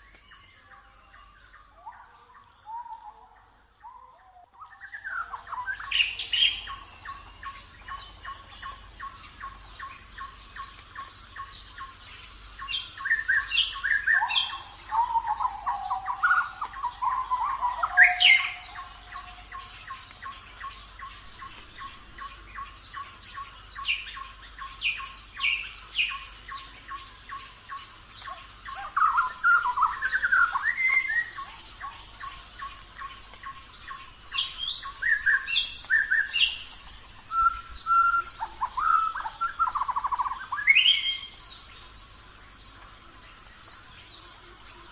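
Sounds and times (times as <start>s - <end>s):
songbirds chirping and singing: 0.0s - 44.9s.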